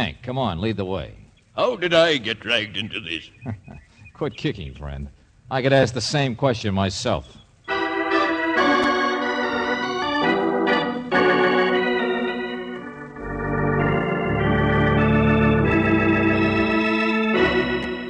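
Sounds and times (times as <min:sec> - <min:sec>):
deep organ bass notes: 0:00.0 - 0:18.0
held organ chords: 0:00.0 - 0:18.0.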